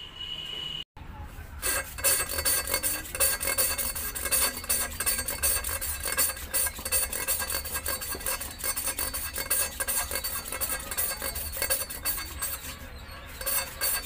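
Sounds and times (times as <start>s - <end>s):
gritty metal scraping: 1.5s - 14.0s.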